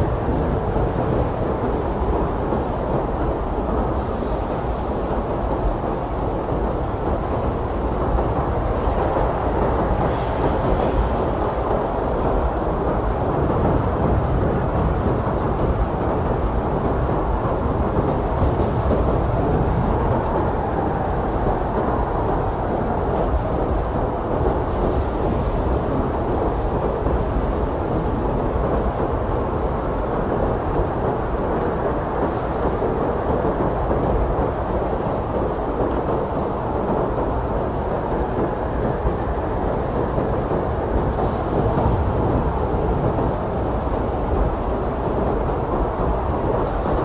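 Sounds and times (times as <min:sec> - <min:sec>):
blizzard wind blowing: 0:00.0 - 0:47.0.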